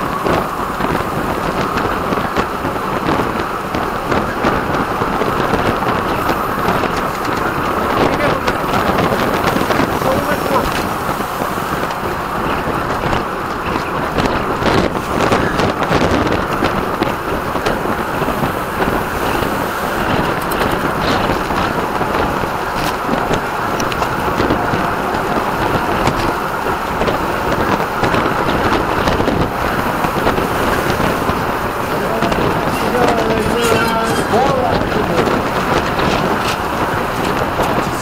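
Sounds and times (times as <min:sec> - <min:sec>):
wind noise on microphone: 0:00.0 - 0:38.0.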